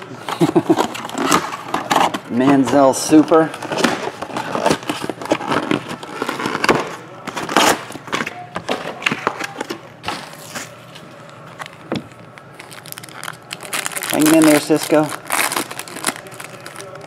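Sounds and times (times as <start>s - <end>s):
plastic wrappers crinkling: 0.3s - 17.0s.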